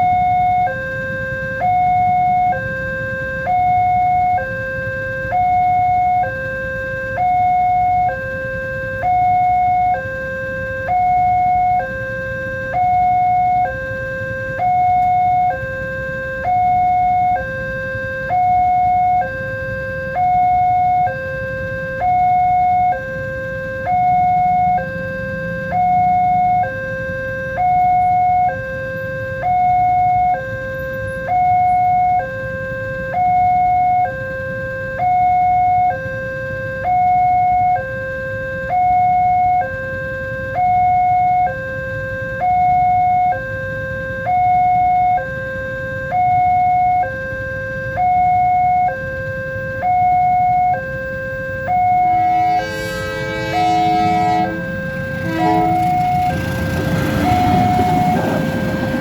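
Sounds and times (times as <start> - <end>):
level crossing two-tone alarm: 0.0 - 59.0.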